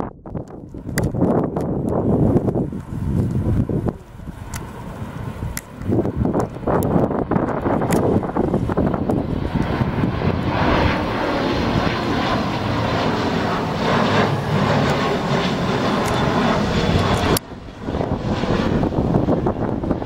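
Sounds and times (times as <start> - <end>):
airliner engines roaring: 0.0 - 20.0.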